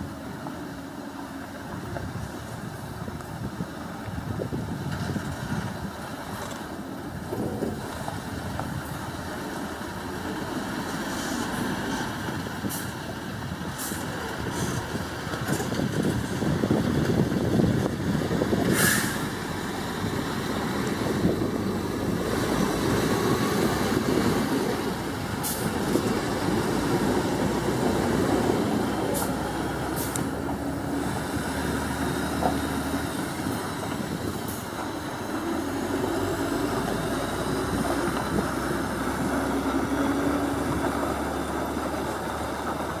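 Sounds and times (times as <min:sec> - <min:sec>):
truck diesel engine running: 0:00.0 - 0:43.0.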